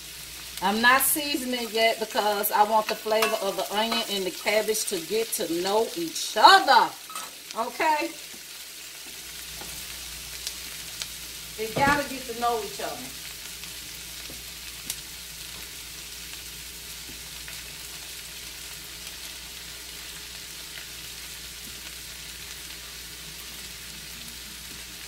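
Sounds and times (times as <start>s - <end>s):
onions and cabbage sizzling: 0.0s - 25.0s.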